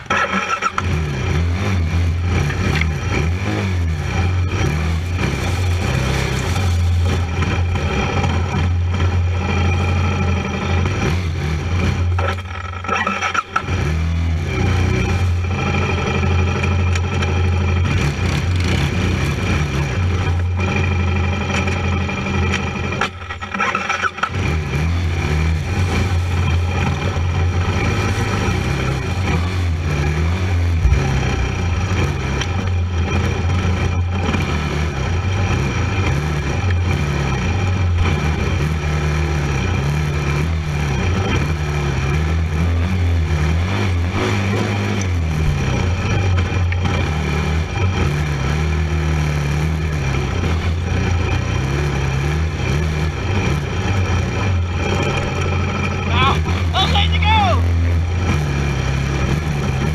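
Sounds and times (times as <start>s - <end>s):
quad engine revving: 0.0s - 59.9s.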